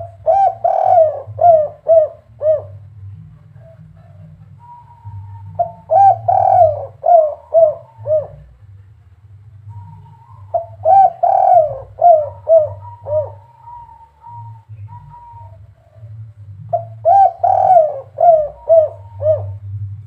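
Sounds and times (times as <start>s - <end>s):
dove cooing: 0.0s - 8.8s, 9.6s - 20.0s.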